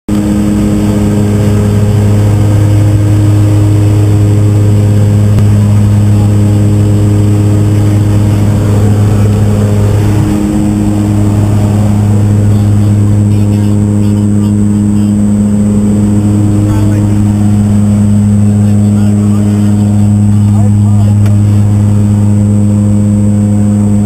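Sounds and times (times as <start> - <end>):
plane engine drone: 0.1 - 24.0.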